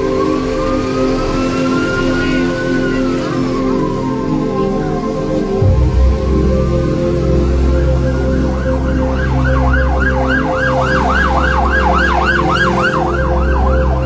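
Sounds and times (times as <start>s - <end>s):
emergency vehicle siren yelping: 0.0s - 14.0s.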